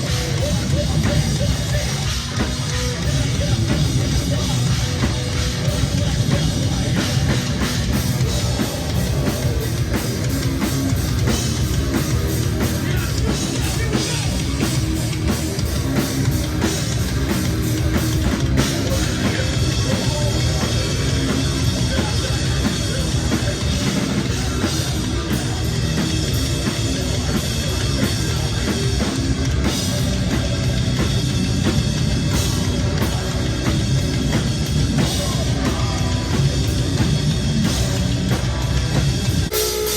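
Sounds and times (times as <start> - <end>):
heavy rock band playing live: 0.0 - 39.9.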